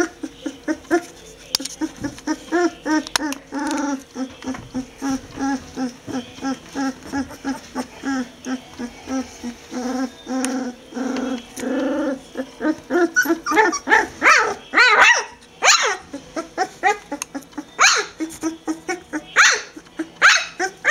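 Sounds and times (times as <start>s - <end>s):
puppies growling: 0.0s - 20.9s
puppies yipping and barking: 0.0s - 20.9s.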